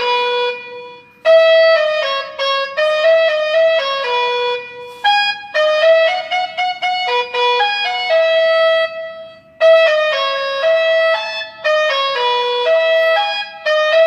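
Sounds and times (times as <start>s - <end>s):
electronic horn playing a melody: 0.0s - 14.0s.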